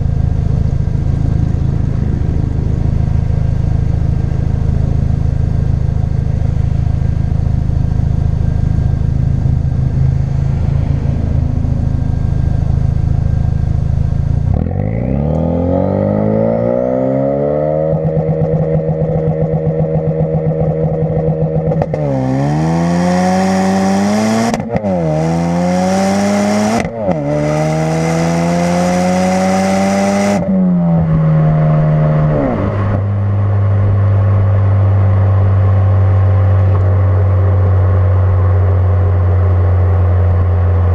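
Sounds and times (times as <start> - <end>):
car engine accelerating through gears: 0.0 - 40.9.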